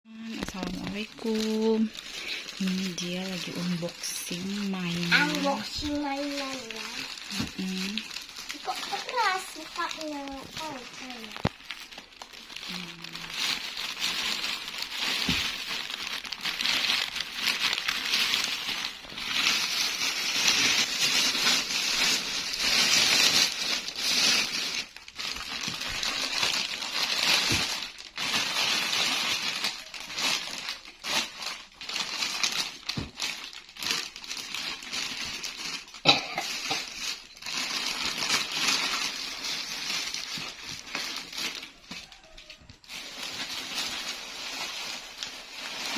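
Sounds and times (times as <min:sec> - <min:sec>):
packaging crinkling and tearing: 0:00.1 - 0:45.9.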